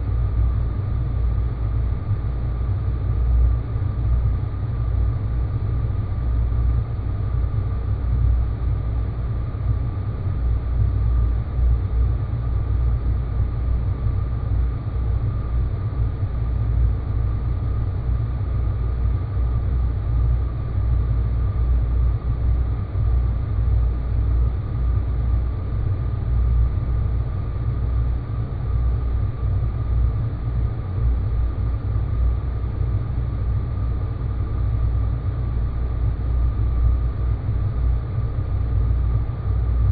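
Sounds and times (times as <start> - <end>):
faint high hum: 0.0 - 39.9.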